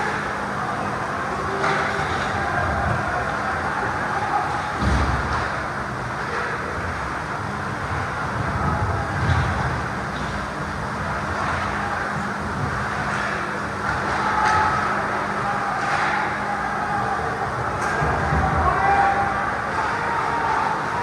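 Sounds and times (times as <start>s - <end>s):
steady rumbling with low hum: 0.0s - 21.0s.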